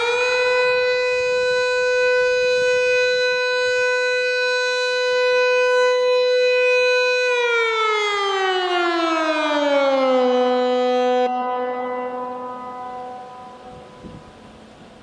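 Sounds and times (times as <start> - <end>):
civil defence siren wailing: 0.0 - 15.0.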